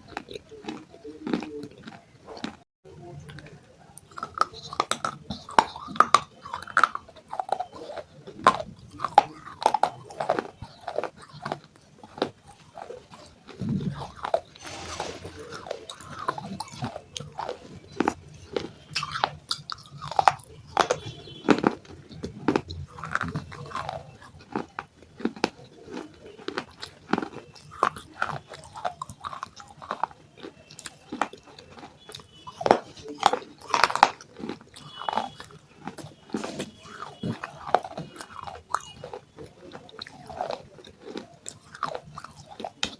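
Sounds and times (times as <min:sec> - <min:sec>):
crunching and chewing: 0:00.0 - 0:42.9.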